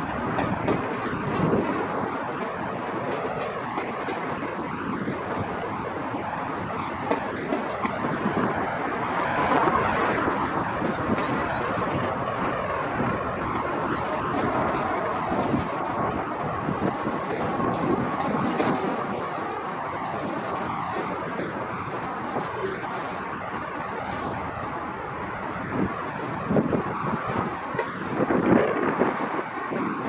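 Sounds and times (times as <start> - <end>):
freight cars rumbling on rails: 0.0 - 30.0.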